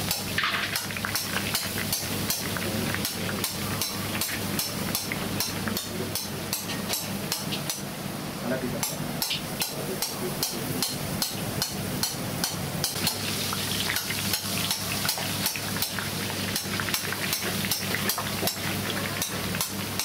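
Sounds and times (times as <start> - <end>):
batter sizzling in hot oil: 0.0 - 8.0, 9.2 - 20.0.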